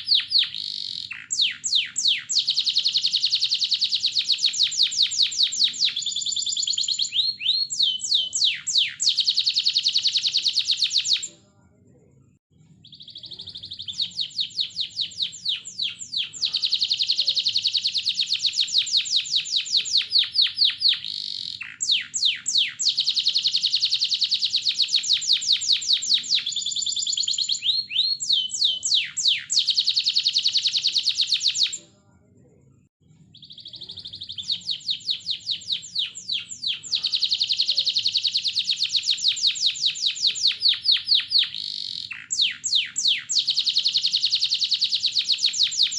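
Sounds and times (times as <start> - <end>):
canary singing trills: 0.0 - 11.4, 12.6 - 31.9, 33.2 - 45.9.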